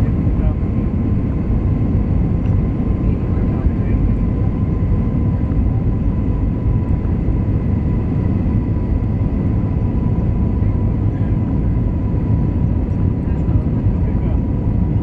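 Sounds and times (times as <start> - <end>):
low rumble of engines and airflow: 0.0 - 15.0.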